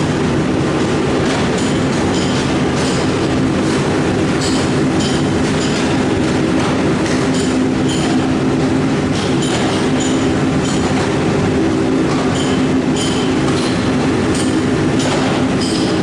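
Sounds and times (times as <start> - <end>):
furnace machinery droning: 0.0 - 16.0.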